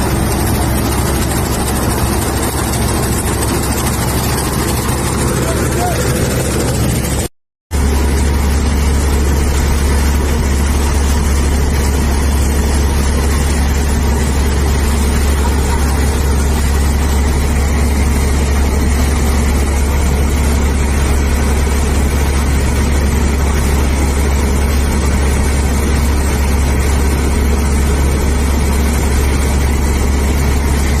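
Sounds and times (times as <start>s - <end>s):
harvester engine droning: 0.0s - 31.0s.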